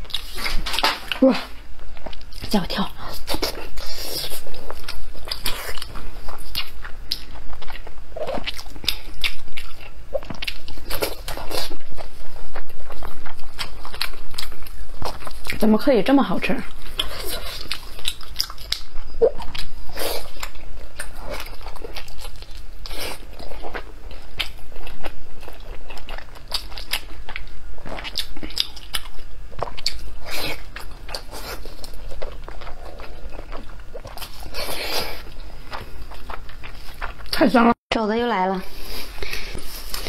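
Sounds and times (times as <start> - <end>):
wet chewing and lip-smacking: 0.0 - 15.8, 16.5 - 37.7.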